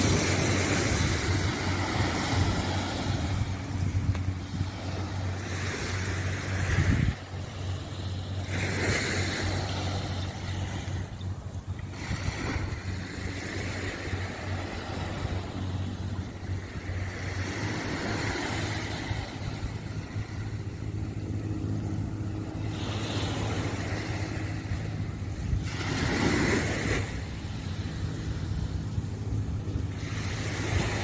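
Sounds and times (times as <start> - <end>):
gentle surf on shore: 0.0 - 31.0
low motor drone: 0.0 - 31.0
wind: 0.0 - 31.0.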